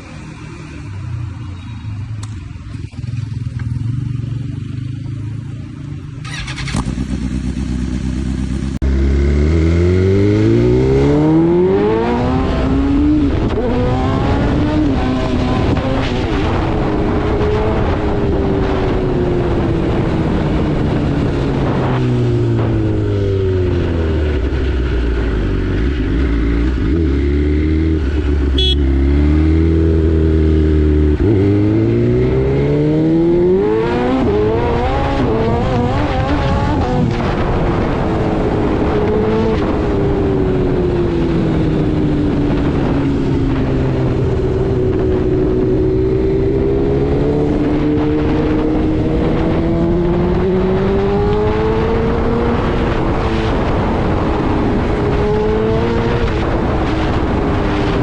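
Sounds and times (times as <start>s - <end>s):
motorcycle engine revving: 2.2s - 58.0s.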